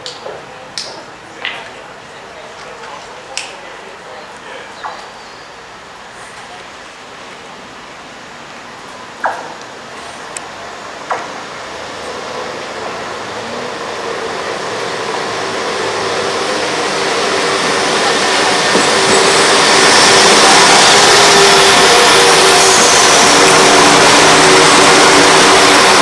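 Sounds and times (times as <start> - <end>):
train rumble and rail noise: 0.0 - 26.0.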